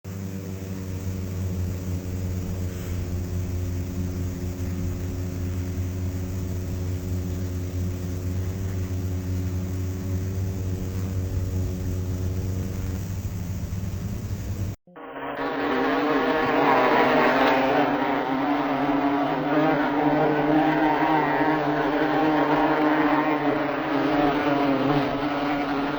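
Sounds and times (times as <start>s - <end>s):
bees buzzing in hive: 0.1s - 25.9s.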